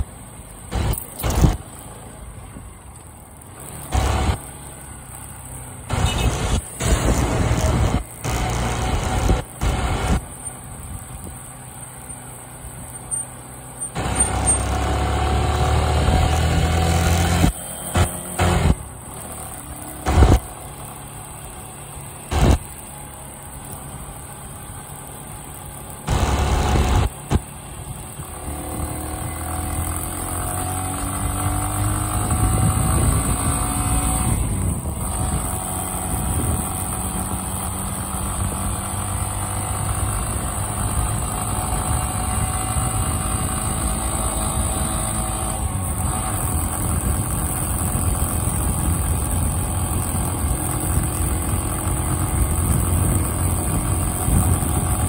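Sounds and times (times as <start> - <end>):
motorcycle engine accelerating: 0.0 - 55.0
road and wind noise: 0.0 - 55.0.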